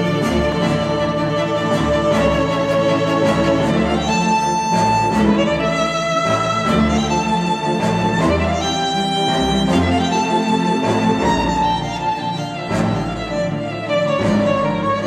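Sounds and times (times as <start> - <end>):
violin string melody: 0.0 - 15.0.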